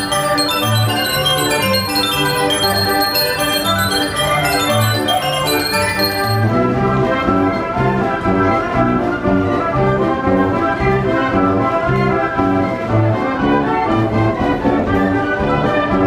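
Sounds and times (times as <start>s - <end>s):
carousel band organ playing: 0.0s - 16.0s.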